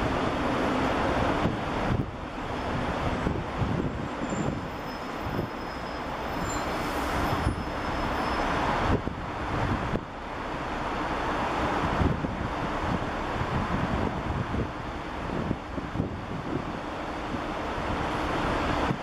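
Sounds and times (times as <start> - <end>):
wind rushing over microphone: 0.0 - 7.9, 8.5 - 19.0.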